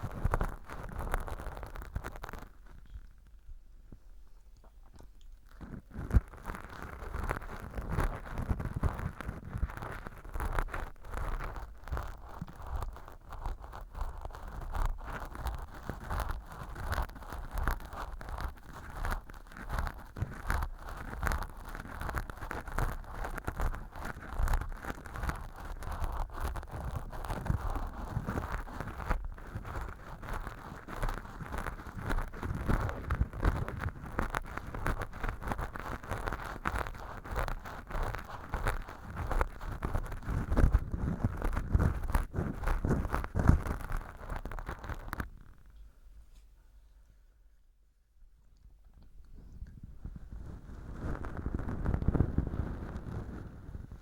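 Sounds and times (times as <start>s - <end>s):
earpick scraping crackly rustle: 0.0s - 3.4s, 4.6s - 46.5s, 49.3s - 54.0s.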